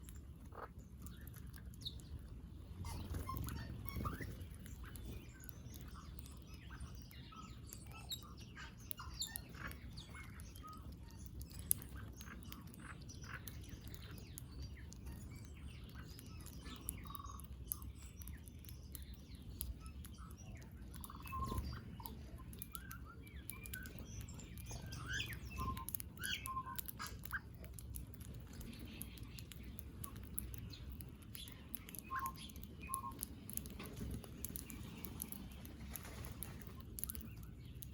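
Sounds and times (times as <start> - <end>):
birds pecking clicks: 0.0 - 37.9
small birds chirping: 0.0 - 37.9.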